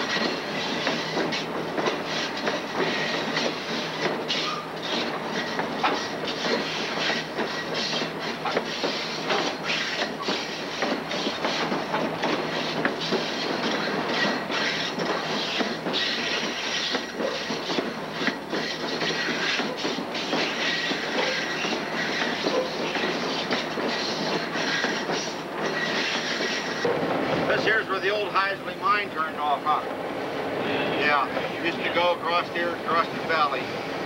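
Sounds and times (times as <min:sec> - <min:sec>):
train clacks and knocks: 0:00.0 - 0:34.0
train wheels rumbling on rail: 0:00.0 - 0:34.0.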